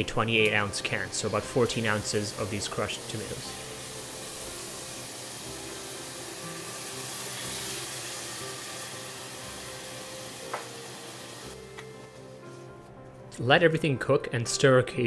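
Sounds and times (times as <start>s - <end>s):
tomatoes sizzling in a saucepan: 0.0s - 12.5s.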